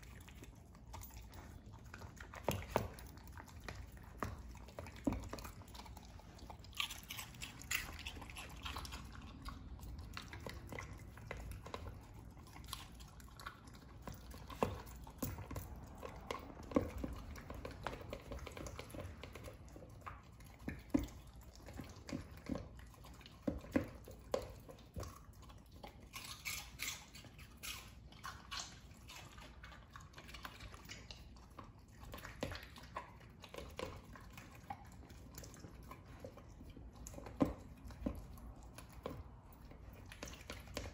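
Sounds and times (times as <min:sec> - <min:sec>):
dog crunching food: 0:00.0 - 0:40.9.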